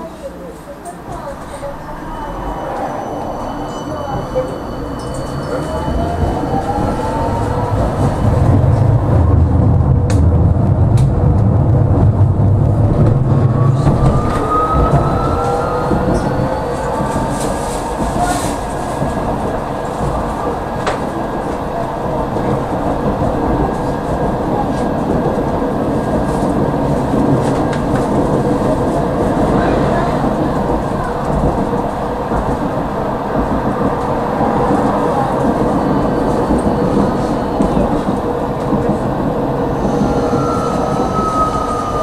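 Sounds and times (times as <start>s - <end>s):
tram wheels rumbling on track: 0.0s - 42.0s.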